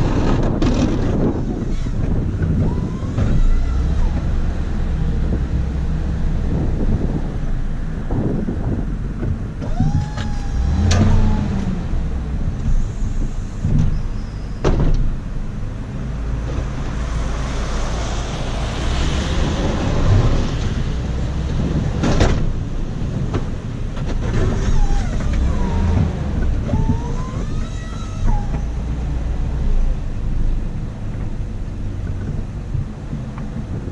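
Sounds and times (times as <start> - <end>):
truck engine rumbling: 0.0 - 33.9.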